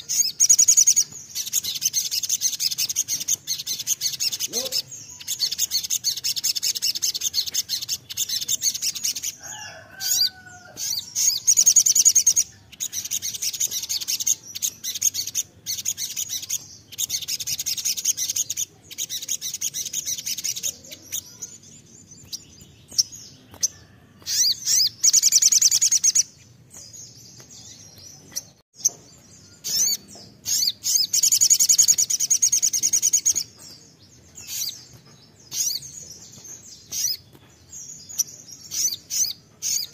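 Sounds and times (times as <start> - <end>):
bird singing high rapid trills: 0.0 - 39.9.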